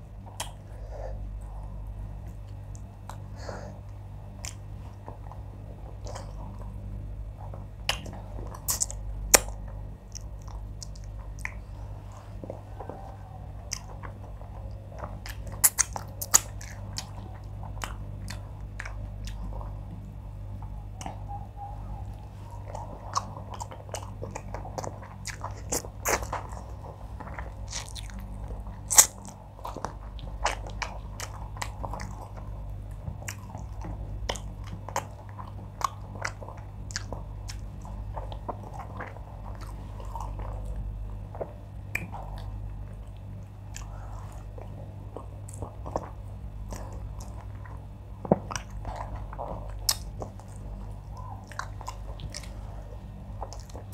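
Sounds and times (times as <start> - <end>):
steady low hum: 0.0 - 53.9
chewing and wet lip-smacking: 0.2 - 0.7, 3.8 - 53.9.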